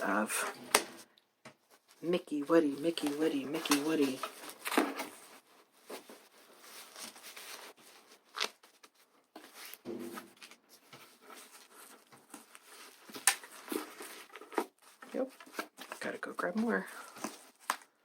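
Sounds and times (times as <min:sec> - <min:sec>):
rustling of plastic packaging: 0:00.0 - 0:18.0.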